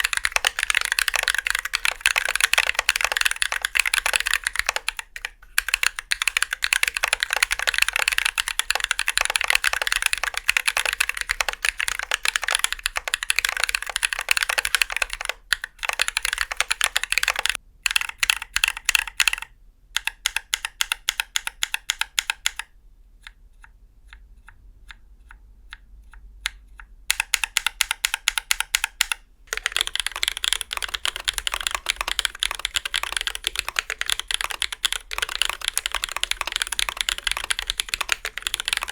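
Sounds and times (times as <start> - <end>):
mechanical keyboard typing: 0.0 - 22.7, 27.1 - 38.9.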